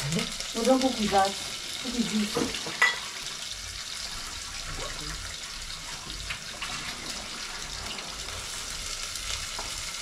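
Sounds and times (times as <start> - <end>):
food frying in a pan: 0.0 - 10.0.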